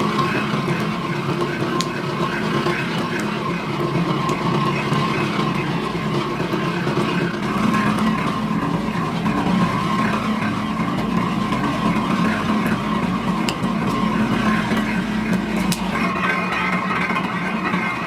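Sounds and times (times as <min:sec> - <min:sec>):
faint clicks: 0:00.0 - 0:16.1
factory machinery drone: 0:00.0 - 0:18.0.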